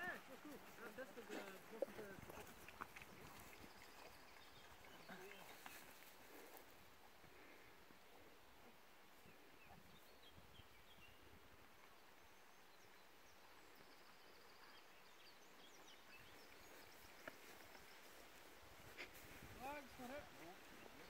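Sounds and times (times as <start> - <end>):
small birds chirping: 0.0 - 8.3, 9.1 - 21.0
faint outdoor hiss: 0.0 - 21.0.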